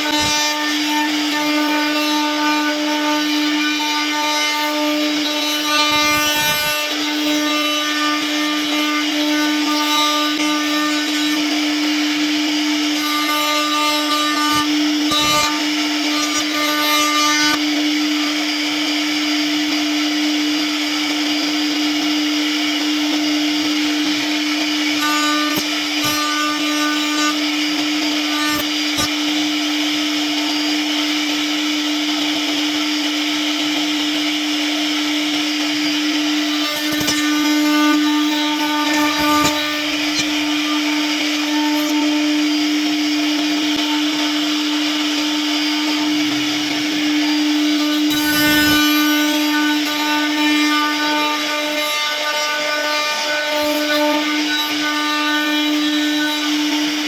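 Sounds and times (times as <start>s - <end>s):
router bit carving wood: 0.0s - 57.0s
router spindle whine: 0.0s - 57.0s.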